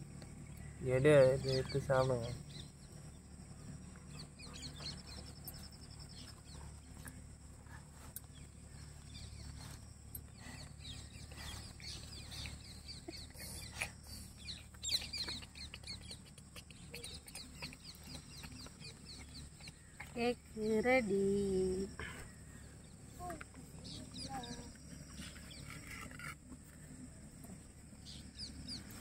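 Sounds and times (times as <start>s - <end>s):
birds chirping: 0.0s - 29.0s
low steady hum: 0.0s - 29.0s.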